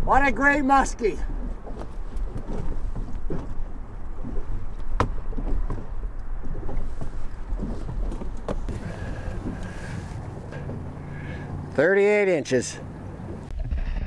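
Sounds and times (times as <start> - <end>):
wind rumbling on microphone: 0.0 - 11.6, 12.8 - 14.0
water lapping around boat: 0.0 - 14.0.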